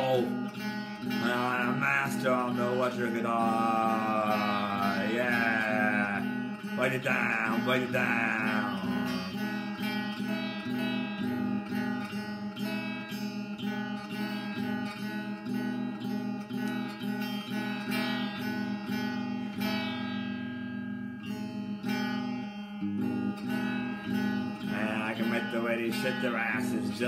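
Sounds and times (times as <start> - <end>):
electric guitar strumming chords: 0.0 - 27.0.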